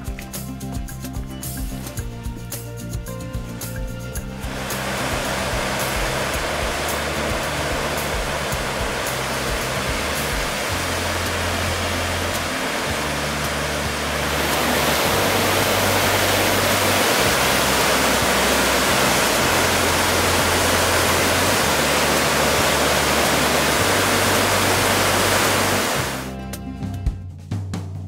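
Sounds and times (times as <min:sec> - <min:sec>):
low sustained music notes: 0:00.0 - 0:27.3
rushing water roar: 0:03.2 - 0:26.3.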